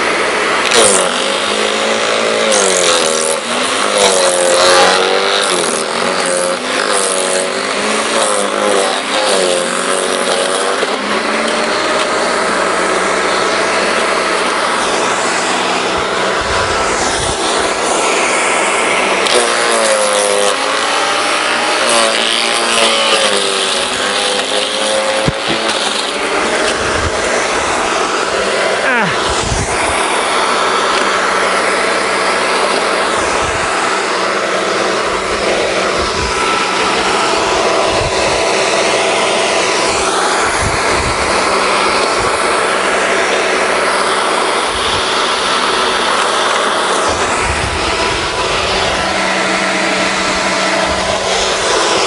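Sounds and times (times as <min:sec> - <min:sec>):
garden shredder chewing branch: 0:00.0 - 0:52.0.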